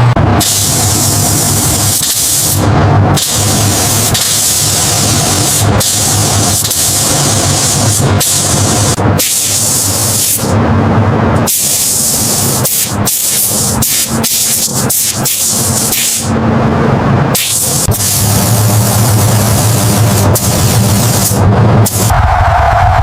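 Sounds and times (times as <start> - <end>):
steady machine hum: 0.0 - 23.0
loud spraying hiss: 0.4 - 2.6, 3.2 - 10.5, 11.5 - 16.3, 17.4 - 22.1.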